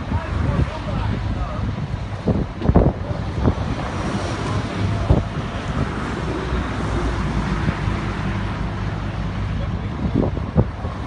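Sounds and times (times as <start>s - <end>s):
diesel machinery rumbling: 0.0s - 11.0s
wind buffeting microphone: 0.0s - 11.0s.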